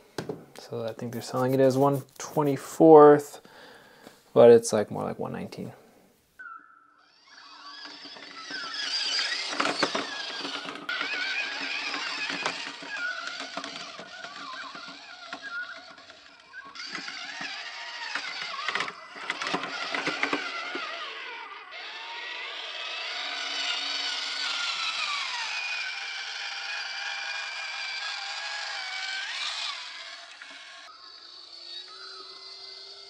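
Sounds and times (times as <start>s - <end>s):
electric motor whining: 6.4s - 33.0s.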